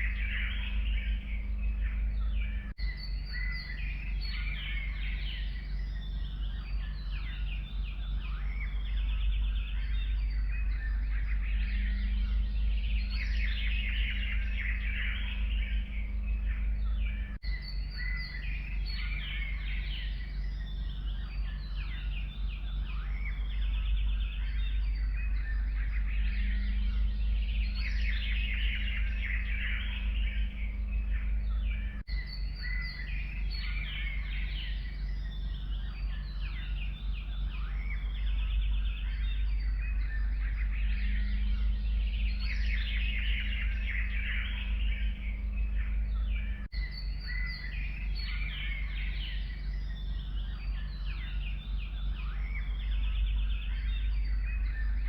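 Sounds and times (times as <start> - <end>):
forest birds chirping and trilling: 0.0 - 55.0
low background rumble: 0.0 - 55.0.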